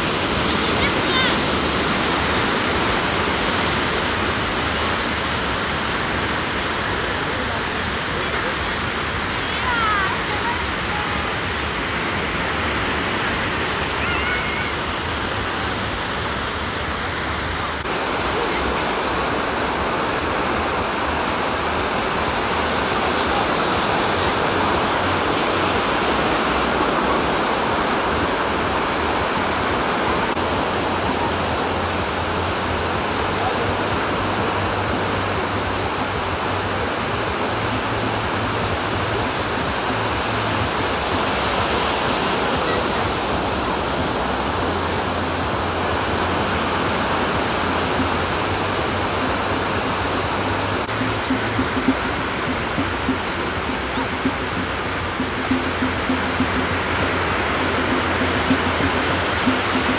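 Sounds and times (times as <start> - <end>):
surf washing on beach: 0.0 - 59.9.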